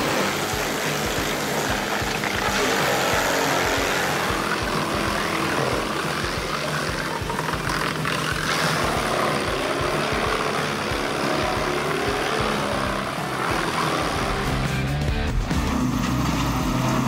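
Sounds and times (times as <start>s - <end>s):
wood chipper chewing logs: 0.0s - 17.0s.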